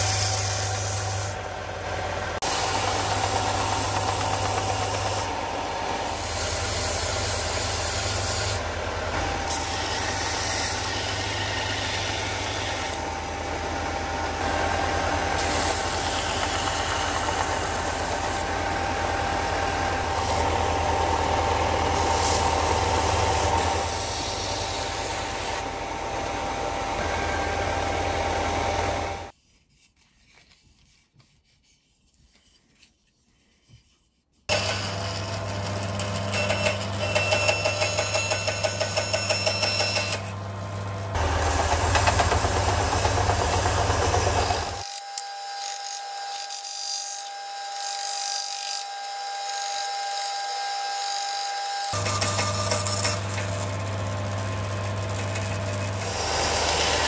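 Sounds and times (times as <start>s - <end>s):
belt sander motor hum: 0.0s - 29.3s, 34.5s - 46.6s, 47.2s - 57.0s.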